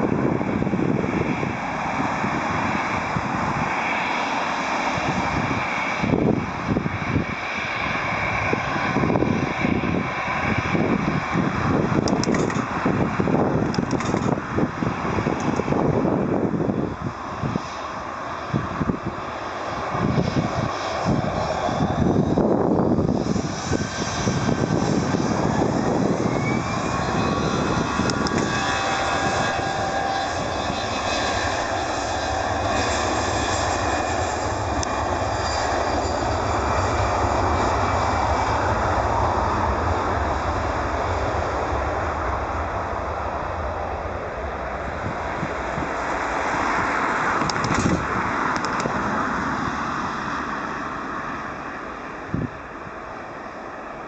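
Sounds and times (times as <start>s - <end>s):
gliding jet engine whines: 0.0s - 54.0s
jet engines buzzing: 0.0s - 54.0s
wind noise on microphone: 0.0s - 54.0s.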